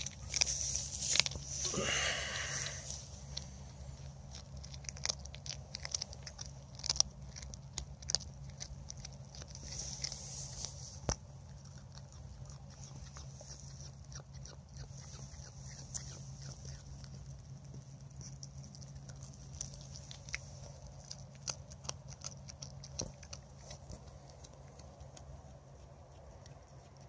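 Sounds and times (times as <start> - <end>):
cat chewing and crunching: 0.0 - 27.0.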